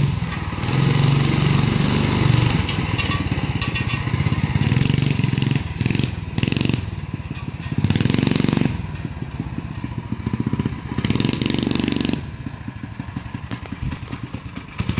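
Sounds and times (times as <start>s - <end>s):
mini bike engine revving: 0.0s - 14.9s.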